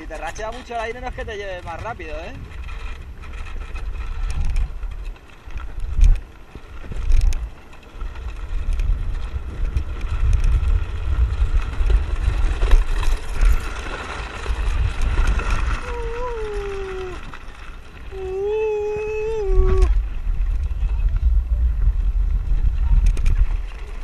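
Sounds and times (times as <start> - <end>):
low rumble of wheels on sand: 0.0 - 24.0
wind buffeting microphone: 0.0 - 24.0.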